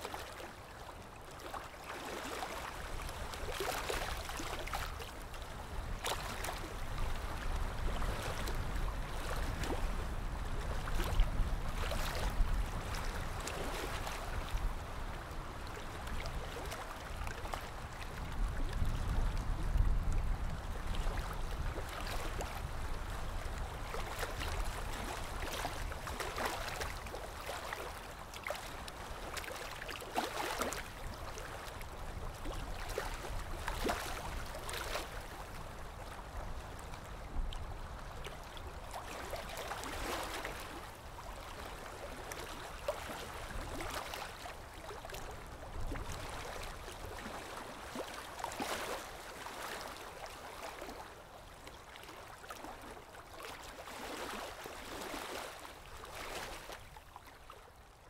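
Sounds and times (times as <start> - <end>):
wind rumble on microphone: 0.2 - 48.0.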